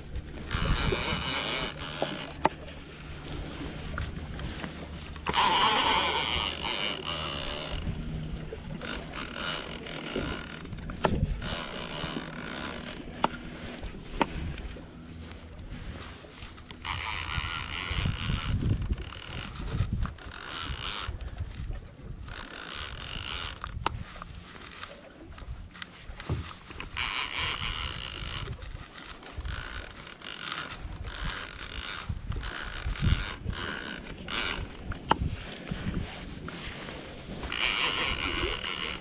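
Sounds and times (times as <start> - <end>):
fishing reel gears whirring: 0.0 - 39.0.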